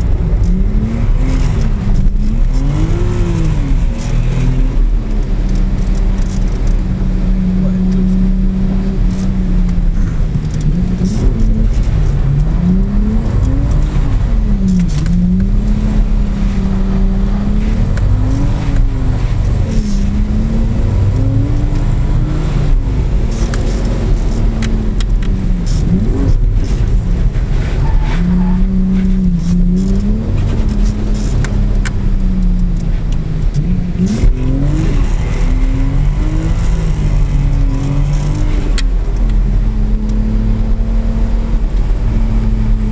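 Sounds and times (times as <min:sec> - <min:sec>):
car engine revving: 0:00.0 - 0:42.9
tyre and road noise: 0:00.0 - 0:42.9.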